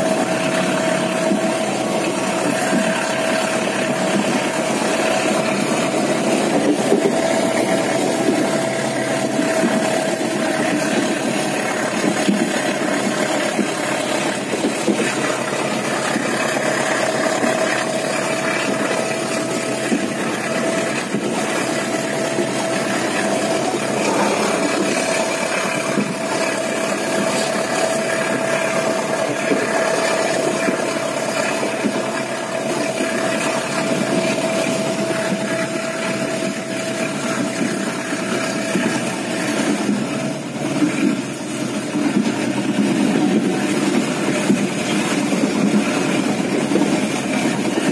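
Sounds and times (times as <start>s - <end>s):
constant hum: 0.0s - 47.9s
train rumble: 0.0s - 47.9s.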